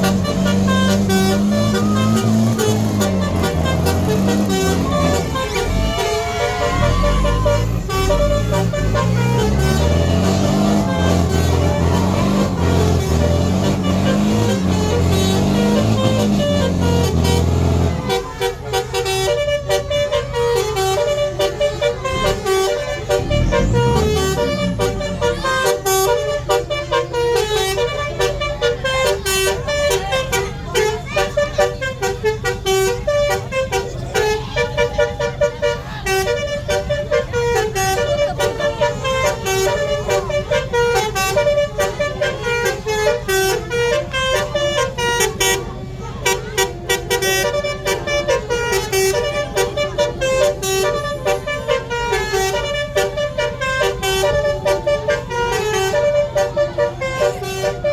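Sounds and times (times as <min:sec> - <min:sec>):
bus horn playing a tune: 0:00.0 - 0:57.9.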